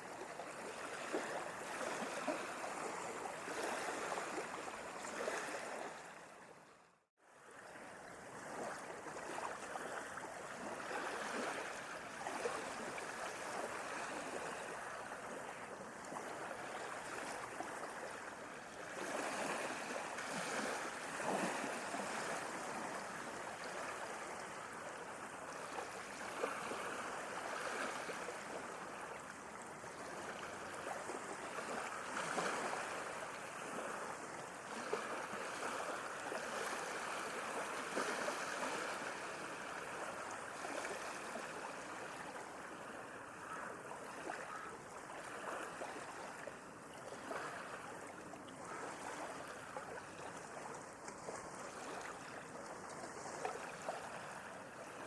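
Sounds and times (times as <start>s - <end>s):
sea waves breaking: 0.0s - 6.7s, 7.4s - 55.0s.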